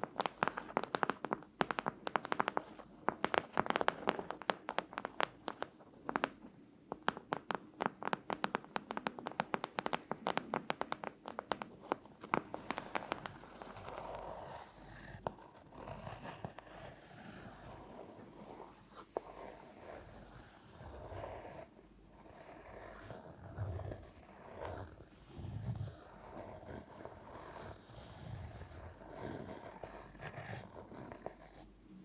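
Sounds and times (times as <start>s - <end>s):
crisp tapping: 0.0s - 27.8s
soft scratching and rubbing: 0.0s - 32.0s.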